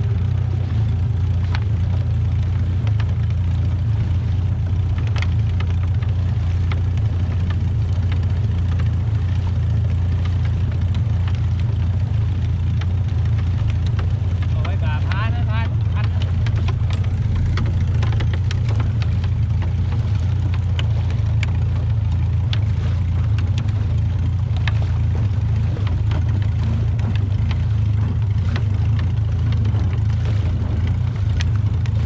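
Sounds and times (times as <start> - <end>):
boat engine droning: 0.0 - 32.0
light clicks and knocks: 1.4 - 32.0.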